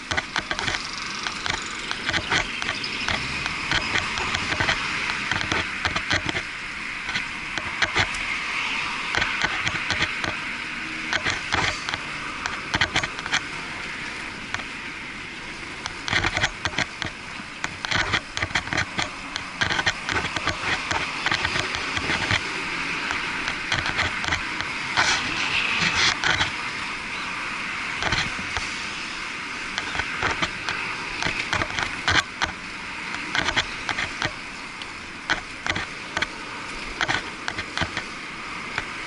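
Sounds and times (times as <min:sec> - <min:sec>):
bike rolling over paving clicks: 0:00.0 - 0:14.8, 0:15.5 - 0:26.8, 0:27.9 - 0:28.7, 0:29.3 - 0:39.0
muffled riding hiss: 0:00.0 - 0:39.0.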